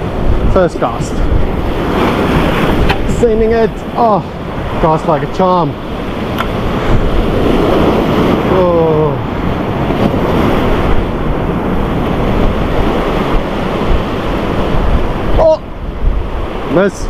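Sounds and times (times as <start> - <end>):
waves breaking on rocks: 0.0 - 17.0
wind buffeting microphone: 0.0 - 17.0.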